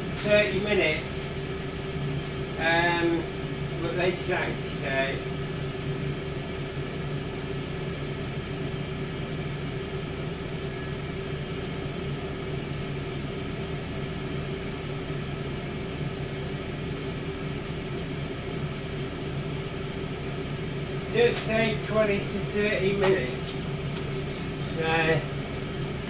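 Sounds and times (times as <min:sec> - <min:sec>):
air fryer fan humming: 0:00.0 - 0:26.0.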